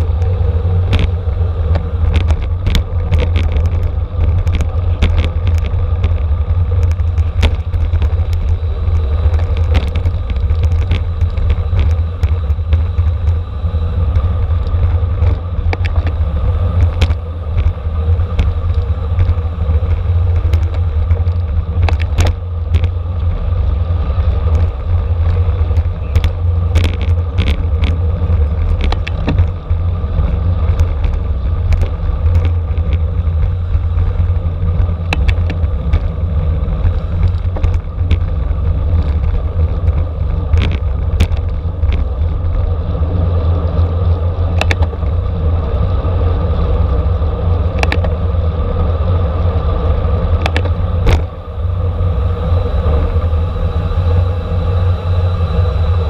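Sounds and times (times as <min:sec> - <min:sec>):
tyre and drivetrain noise: 0:00.0 - 0:56.0
wind rumble on microphone: 0:00.0 - 0:56.0.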